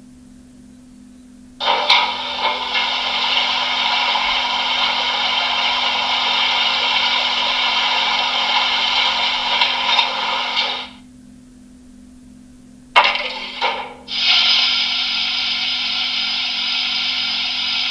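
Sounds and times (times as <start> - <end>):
water rushing from small speaker: 1.6 - 11.0, 13.0 - 17.9.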